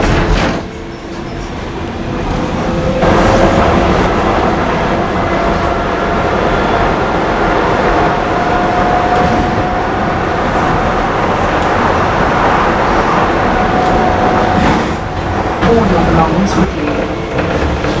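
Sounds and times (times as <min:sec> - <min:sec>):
train running on track: 0:00.0 - 0:18.0.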